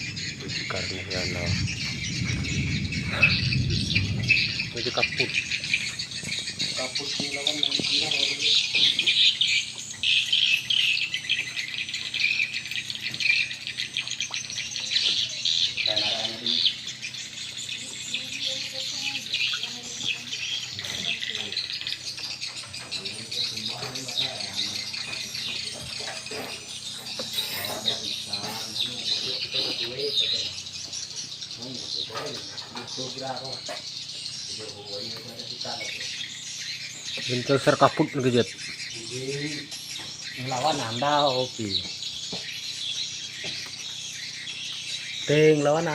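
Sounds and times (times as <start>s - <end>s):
swiftlets twittering: 0.0s - 45.9s.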